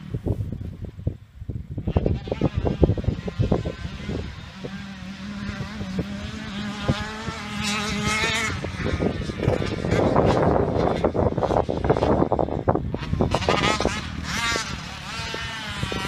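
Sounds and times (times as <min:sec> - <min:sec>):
dirt bike engine revving: 0:01.6 - 0:16.0.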